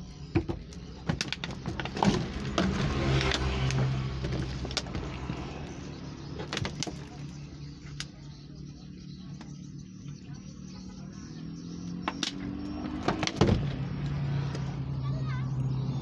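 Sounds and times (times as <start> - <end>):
motor engine hum: 0.0 - 16.0.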